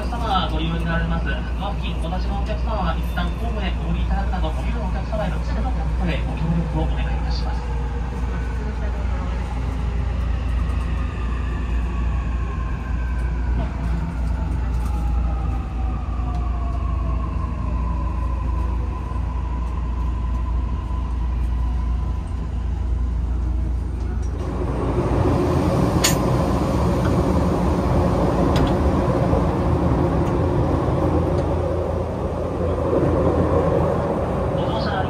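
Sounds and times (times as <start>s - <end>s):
train running heard from inside: 0.0s - 35.0s.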